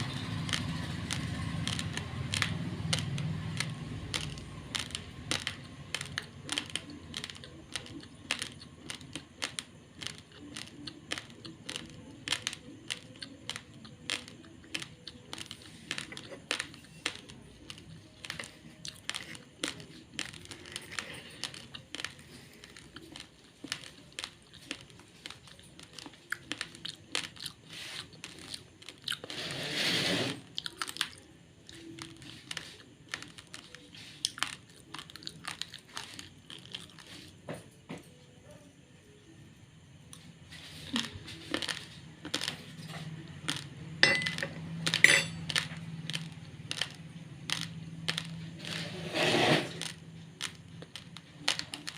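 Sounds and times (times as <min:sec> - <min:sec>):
dry rice crunching between teeth: 0:00.0 - 0:37.5, 0:40.1 - 0:51.9.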